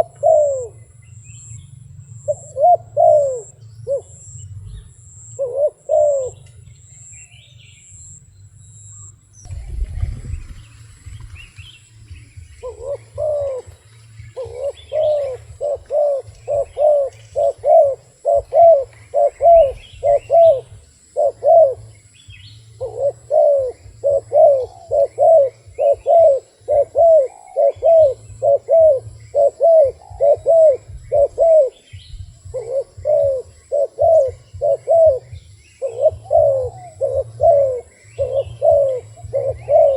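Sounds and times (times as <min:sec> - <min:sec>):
dove cooing: 0:00.0 - 0:07.1, 0:09.5 - 0:39.9
small birds chirping: 0:00.0 - 0:39.9.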